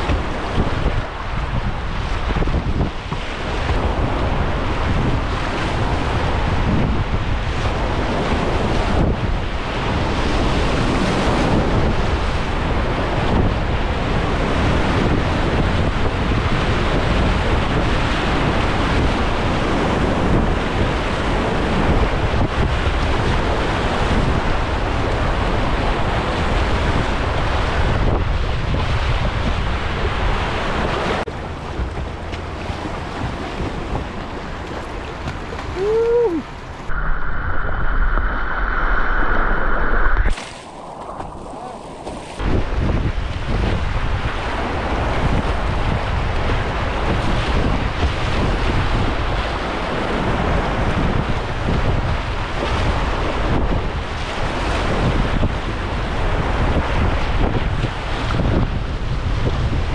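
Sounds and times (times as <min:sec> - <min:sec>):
whitewater rapid roaring: 0:00.0 - 0:37.1, 0:38.2 - 0:59.9
wind buffeting on microphone: 0:00.0 - 0:59.9.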